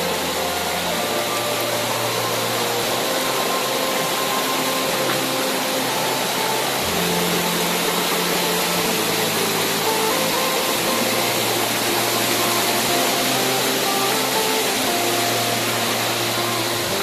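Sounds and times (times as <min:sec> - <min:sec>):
soft background music: 0:00.0 - 0:17.0
waterfall and stream rushing: 0:00.0 - 0:17.0.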